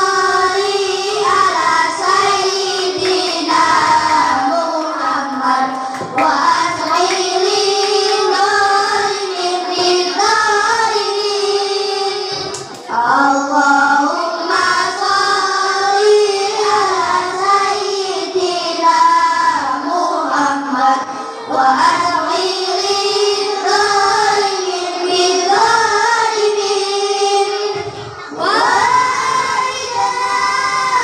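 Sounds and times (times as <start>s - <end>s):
children singing together: 0.0s - 31.0s.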